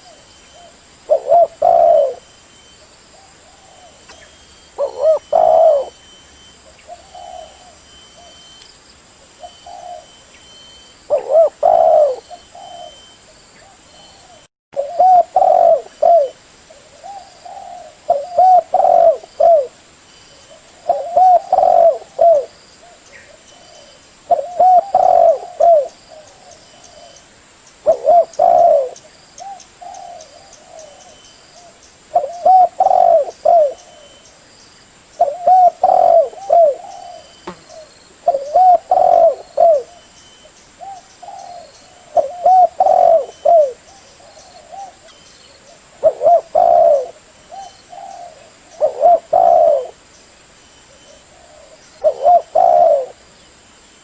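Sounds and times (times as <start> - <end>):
dove cooing: 0.0 - 2.3, 3.1 - 8.4, 9.4 - 10.2, 11.1 - 19.8, 20.4 - 27.2, 27.8 - 34.2, 35.2 - 40.1, 40.8 - 50.0, 50.9 - 53.2.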